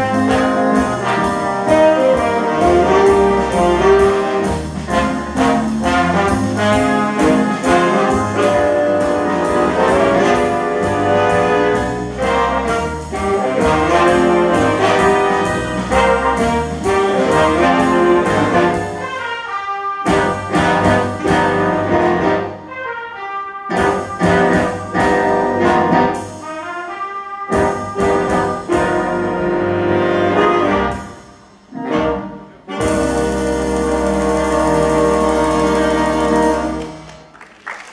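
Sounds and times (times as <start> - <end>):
big band playing swing jazz: 0.0 - 37.9.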